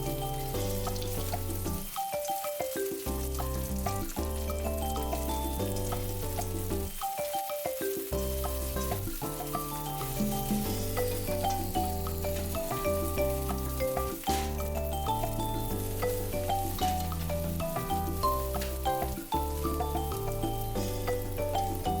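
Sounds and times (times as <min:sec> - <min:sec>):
egg sizzling in a frying pan: 0:00.0 - 0:22.0
light melodic background music: 0:00.0 - 0:22.0.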